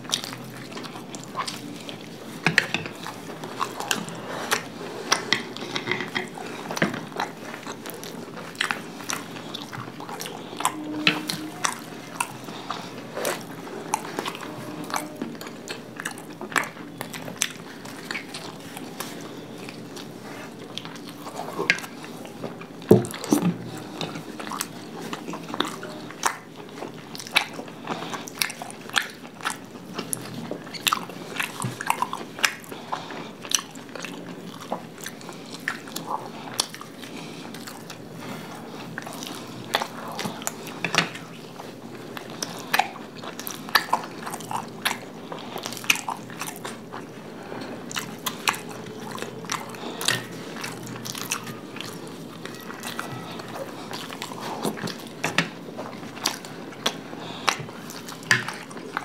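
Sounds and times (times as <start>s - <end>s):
people chewing flatbread: 0.0s - 59.0s.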